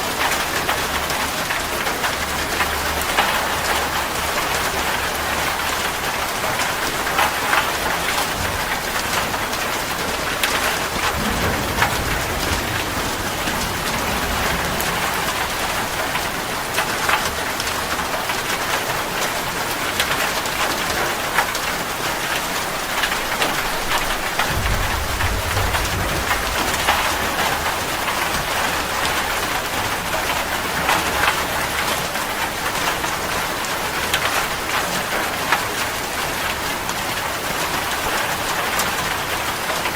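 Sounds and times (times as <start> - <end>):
raindrops striking close by: 0.0 - 39.9
steady rain falling: 0.0 - 39.9
distant thunder rumbling: 0.2 - 33.0.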